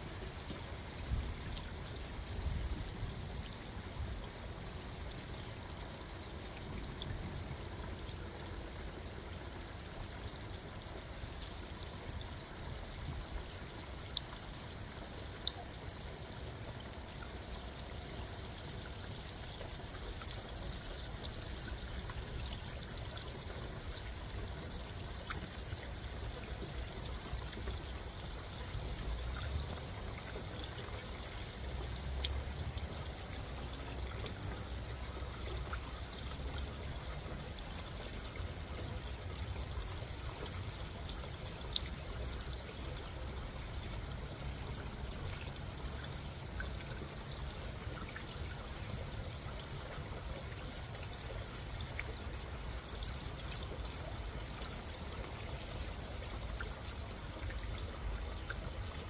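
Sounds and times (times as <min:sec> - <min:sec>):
water trickling down rain chain: 0:00.0 - 0:59.0
faint drip ticks: 0:00.1 - 0:59.0.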